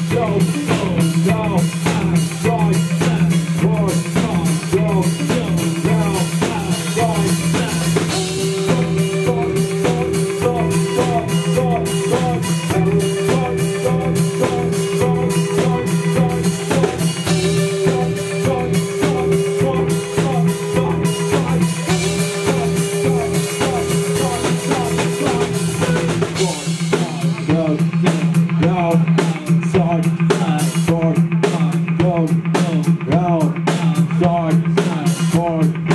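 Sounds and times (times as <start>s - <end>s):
fast drum beat: 0.0s - 35.9s
live rock band playing: 0.0s - 35.9s.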